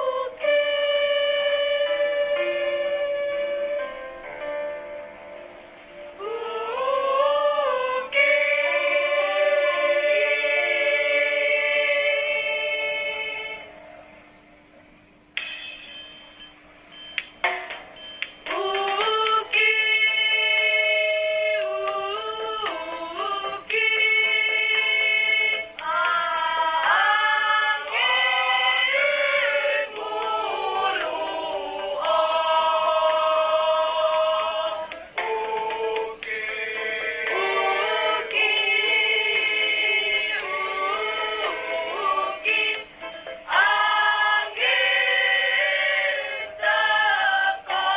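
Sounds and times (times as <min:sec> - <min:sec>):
choir singing: 0:00.0 - 0:03.8, 0:06.2 - 0:13.7, 0:18.5 - 0:47.9.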